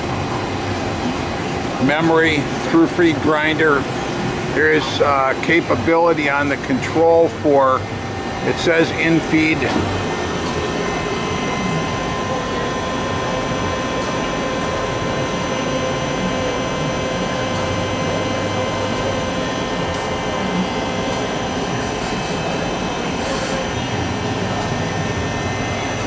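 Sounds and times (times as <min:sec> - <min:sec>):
grinder whirring hum: 0:00.0 - 0:26.0.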